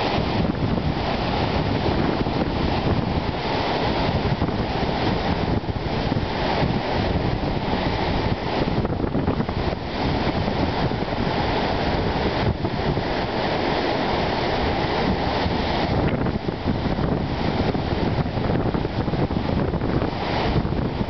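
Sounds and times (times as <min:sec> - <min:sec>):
waves breaking on rocky shore: 0:00.0 - 0:21.0
wind gusting on microphone: 0:00.0 - 0:21.0.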